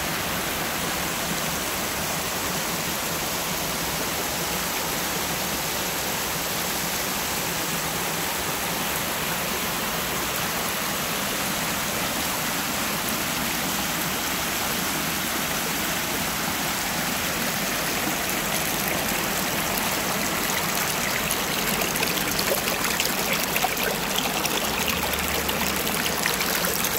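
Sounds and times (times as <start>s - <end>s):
water rushing over rock ledges: 0.0s - 26.9s.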